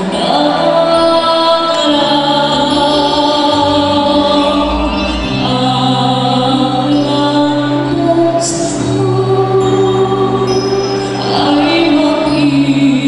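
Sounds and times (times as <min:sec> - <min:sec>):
choir-like voices: 0:00.0 - 0:13.0
sustained bass notes: 0:00.0 - 0:13.0.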